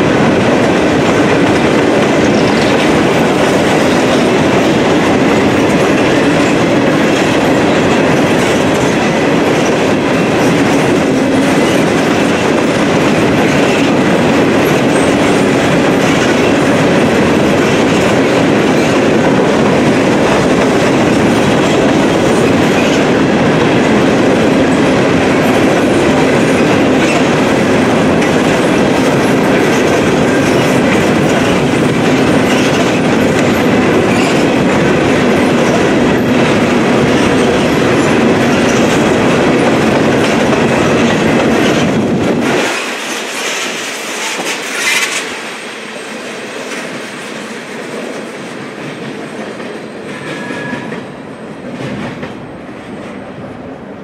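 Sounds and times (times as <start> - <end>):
wheels clacking over rail joints: 0.0 - 53.3
freight train rolling past: 0.0 - 54.0.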